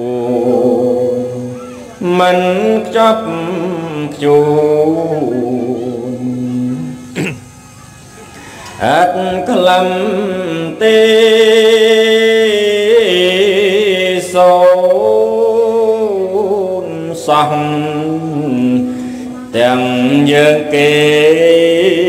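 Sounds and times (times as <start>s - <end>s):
monk chanting: 0.0s - 7.4s, 8.8s - 22.0s.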